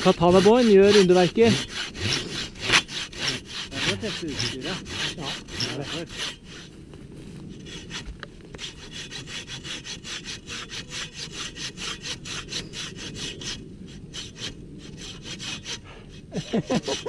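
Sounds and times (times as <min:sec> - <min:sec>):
hand saw rasping through wood: 0:00.0 - 0:06.7, 0:07.6 - 0:17.0.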